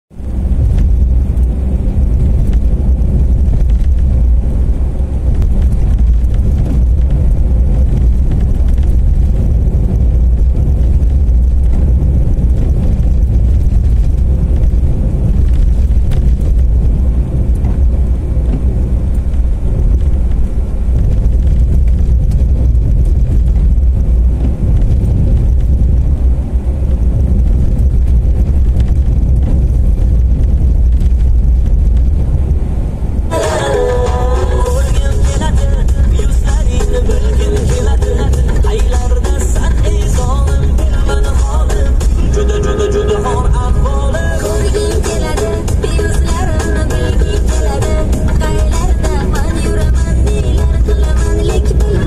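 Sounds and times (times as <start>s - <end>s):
car engine and road noise rumble: 0.0s - 52.0s.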